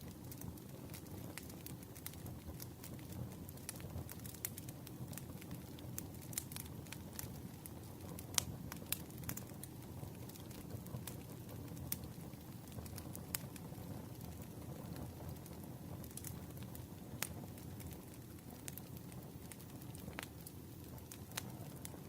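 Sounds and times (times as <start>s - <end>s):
campfire flames rushing: 0.0s - 22.0s
fire crackles and pops: 0.0s - 22.0s.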